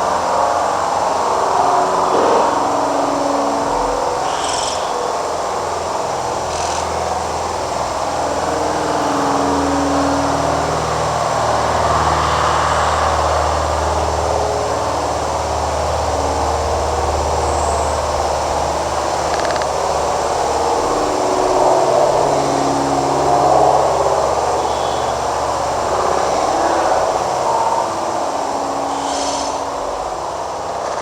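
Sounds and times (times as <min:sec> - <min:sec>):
mechanical rumble: 0:00.0 - 0:31.0.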